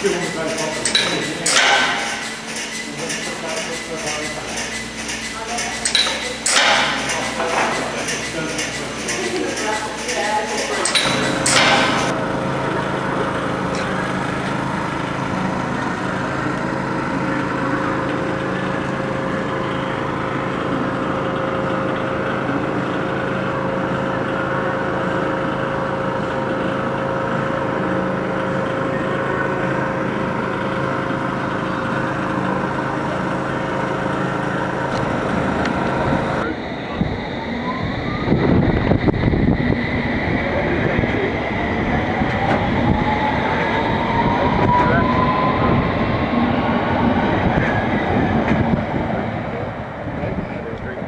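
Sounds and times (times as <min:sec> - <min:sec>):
held whining tone: 0:00.0 - 0:51.0
machinery hum: 0:00.0 - 0:51.0.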